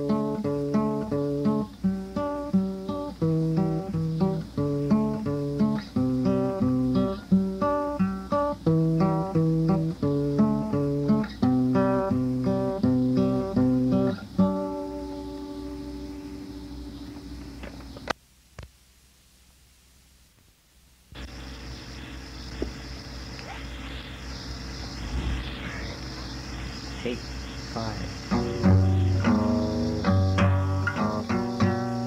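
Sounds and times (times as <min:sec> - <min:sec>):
acoustic guitar picking: 0:00.0 - 0:18.1, 0:23.6 - 0:32.0.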